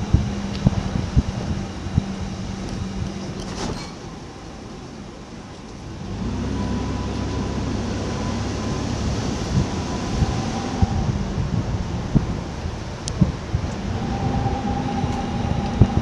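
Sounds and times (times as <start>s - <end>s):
engine running with low hum: 0.0s - 16.0s.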